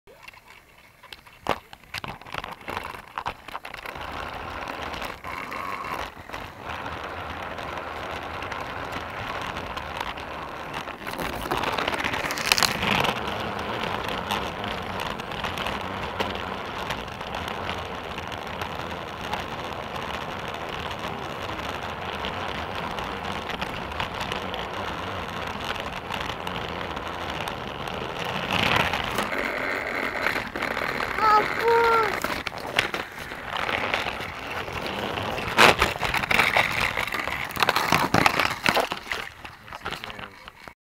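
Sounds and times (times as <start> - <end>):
toy train motor and wheels rattling: 0.2 - 40.8.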